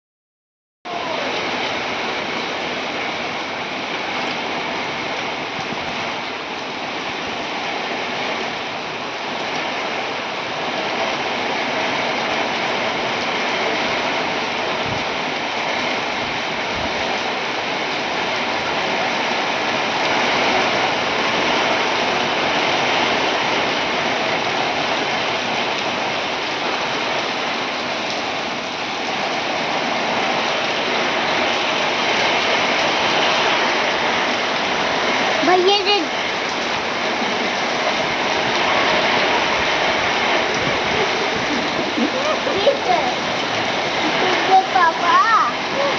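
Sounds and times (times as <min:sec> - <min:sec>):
heavy rain pouring: 0:00.9 - 0:45.9.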